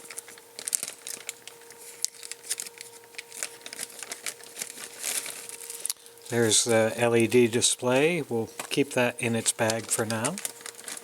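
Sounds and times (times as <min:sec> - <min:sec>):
faint steady hum: 0:00.0 - 0:11.0
plastic bags crinkling: 0:00.0 - 0:11.0.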